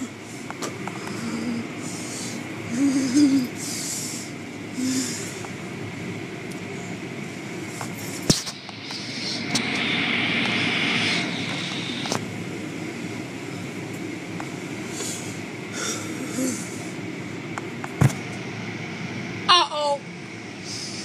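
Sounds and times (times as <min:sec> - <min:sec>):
machinery rumble: 0:00.0 - 0:21.0.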